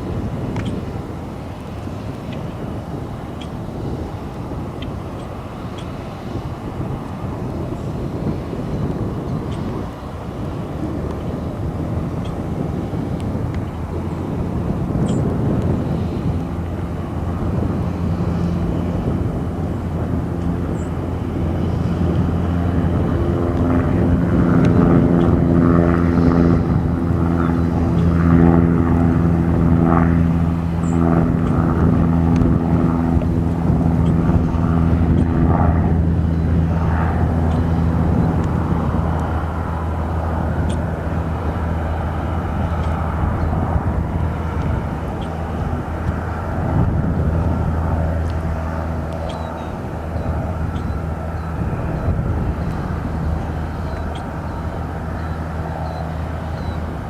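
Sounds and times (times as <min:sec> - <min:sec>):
propeller airplane engine droning: 0:00.0 - 0:57.0.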